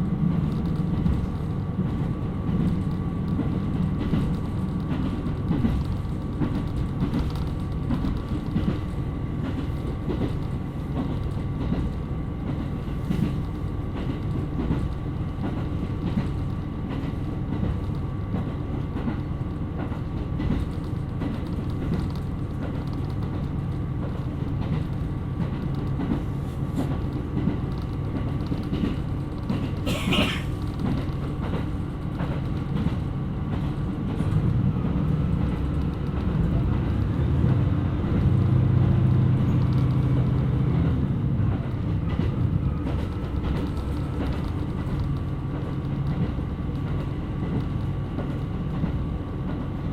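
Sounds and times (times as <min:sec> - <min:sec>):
diesel railcar rumbling: 0:00.0 - 0:49.9
rail-joint clicks: 0:00.3 - 0:49.8.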